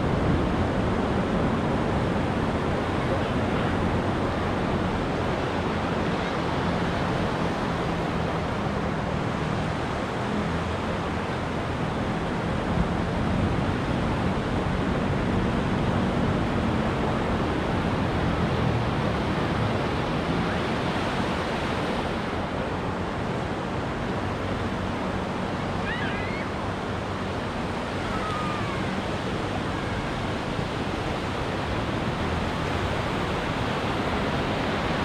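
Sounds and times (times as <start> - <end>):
ocean surf on a beach: 0.0 - 35.0.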